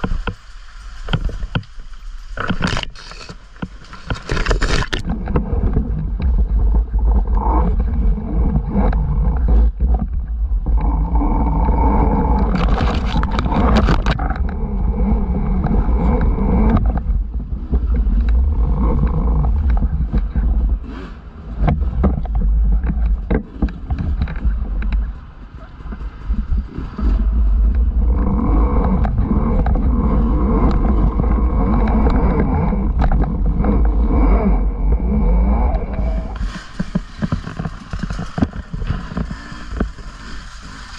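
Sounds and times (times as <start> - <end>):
tyre and trail noise: 0.0 - 40.9
motor drone: 2.3 - 25.4, 26.0 - 40.9
wind buffeting microphone: 3.6 - 40.9.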